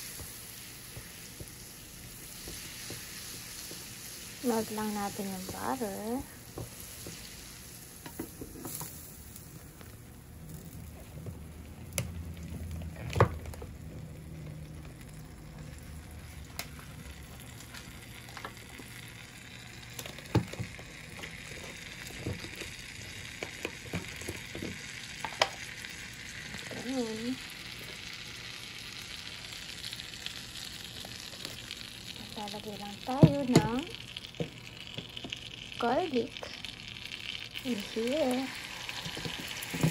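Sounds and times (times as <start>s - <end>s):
butter sizzling in a frying pan: 0.0s - 39.9s.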